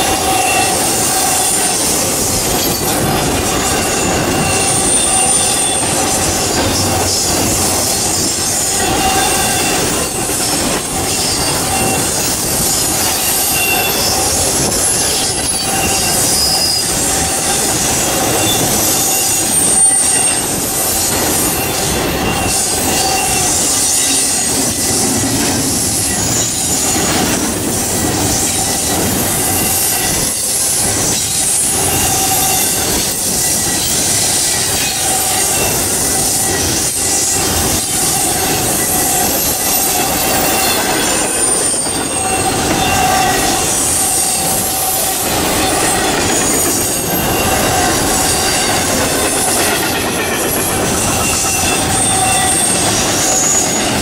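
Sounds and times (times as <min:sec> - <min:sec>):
high-pitched wheel squeal: 0:00.0 - 0:54.0
train wheels rumbling on rails: 0:00.0 - 0:54.0.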